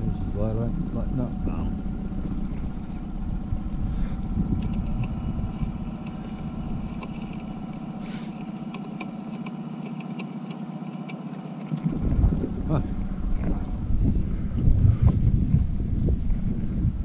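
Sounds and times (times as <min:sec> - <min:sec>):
low rumble: 0:00.0 - 0:08.5, 0:11.7 - 0:17.0
outboard motor running: 0:00.0 - 0:17.0.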